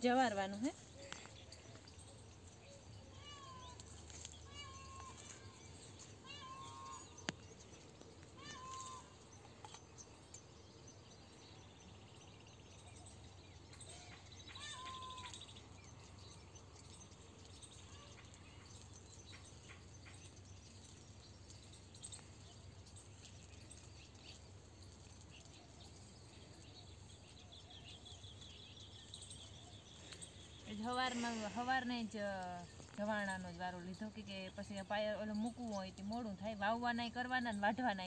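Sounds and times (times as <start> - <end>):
faint bird chirps: 0.5 - 36.3.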